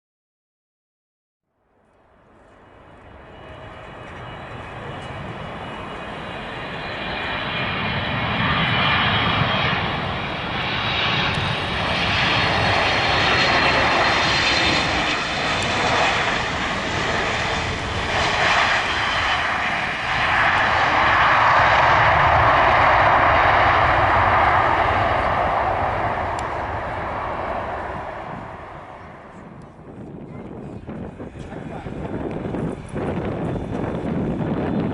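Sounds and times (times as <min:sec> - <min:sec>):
jet airliner landing: 0:01.7 - 0:34.9.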